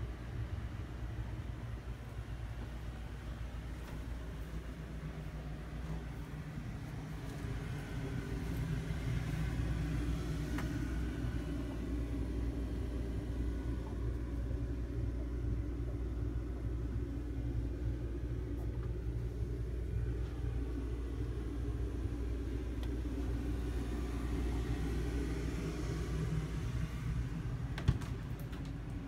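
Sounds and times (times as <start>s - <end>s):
low machine rumble: 0.0s - 29.0s.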